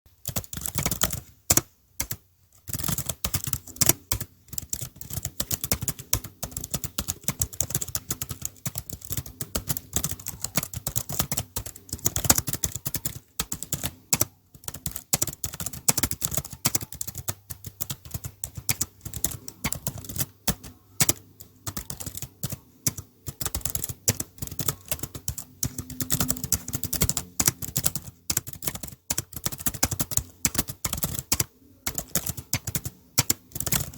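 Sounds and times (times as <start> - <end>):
computer keyboard typing: 0.1 - 33.9.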